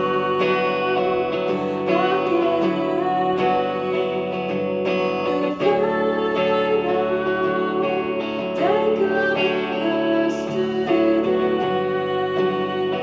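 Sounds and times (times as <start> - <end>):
live band with guitars: 0.0 - 13.0.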